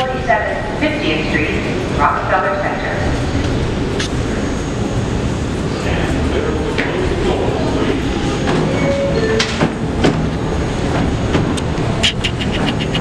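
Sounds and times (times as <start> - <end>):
subway train low rumble: 0.0 - 13.0.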